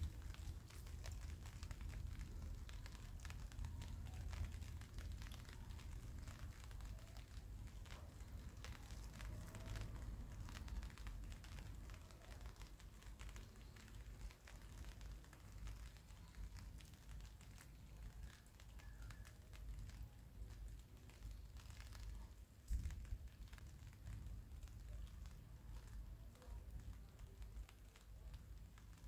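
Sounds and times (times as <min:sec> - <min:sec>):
light rain drops ticking: 0:00.0 - 0:29.0.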